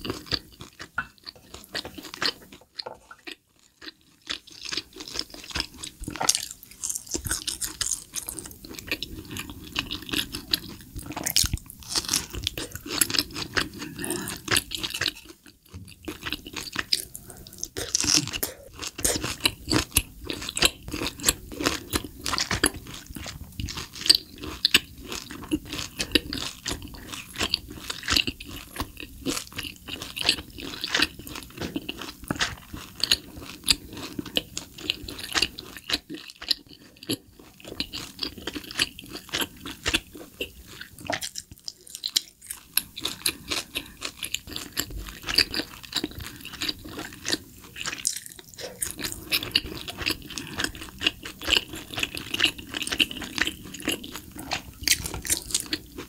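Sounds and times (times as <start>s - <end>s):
chewing steak: 0.0s - 56.0s.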